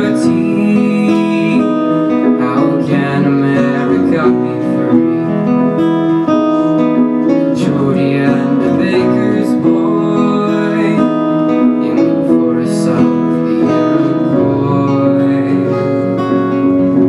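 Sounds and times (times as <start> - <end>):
acoustic guitar: 0.0 - 17.0
grand piano: 0.0 - 17.0.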